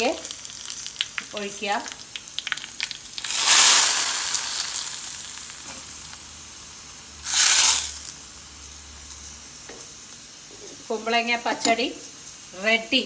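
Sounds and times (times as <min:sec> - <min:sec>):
hot oil sizzling in curry: 0:00.0 - 0:13.0.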